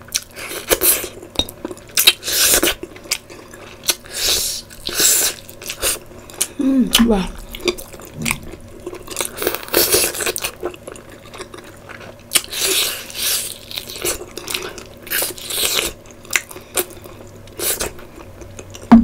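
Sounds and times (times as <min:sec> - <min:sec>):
person chewing wet food: 0:00.0 - 0:19.0.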